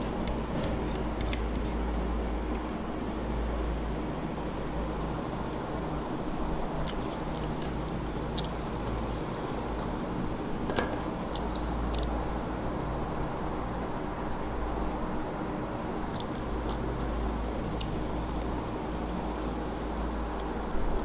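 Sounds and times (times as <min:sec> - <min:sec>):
chewing and wet mouth sounds: 0:00.0 - 0:02.8, 0:04.4 - 0:10.0, 0:11.0 - 0:13.8, 0:14.7 - 0:21.0
steady low hum: 0:00.0 - 0:21.0.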